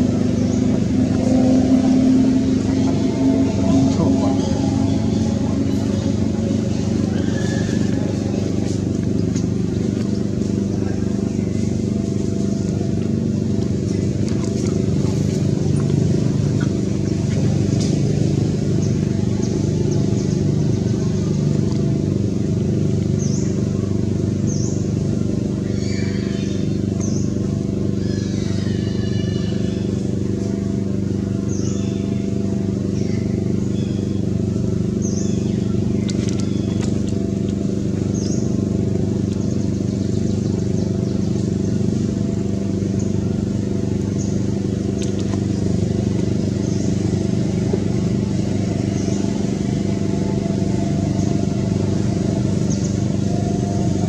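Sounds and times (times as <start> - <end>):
low engine drone: 0.0 - 54.0
motor humming: 0.0 - 54.0.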